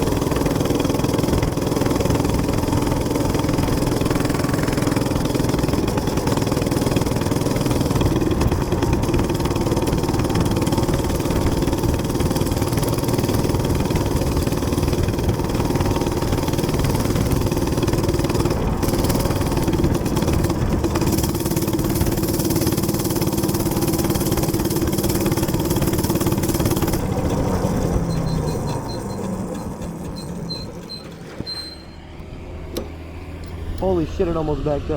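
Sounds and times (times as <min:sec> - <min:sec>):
minibike engine at high speed: 0:00.0 - 0:34.9.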